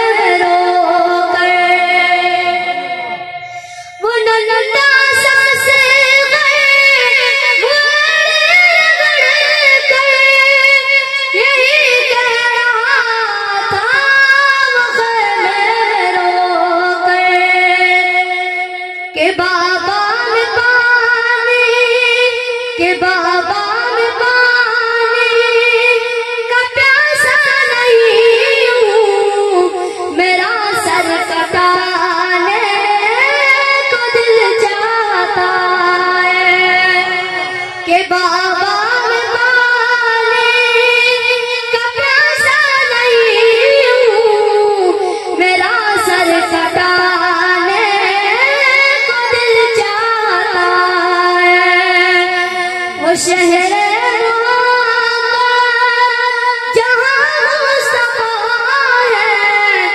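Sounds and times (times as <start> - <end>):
boy singing into a microphone: 0.0 - 59.9.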